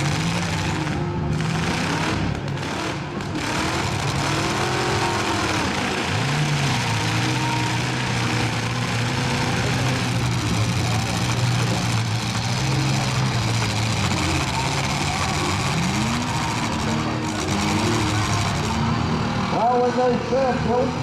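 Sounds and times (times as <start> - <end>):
arena noise: 0.0 - 21.0
truck engines revving: 0.0 - 21.0.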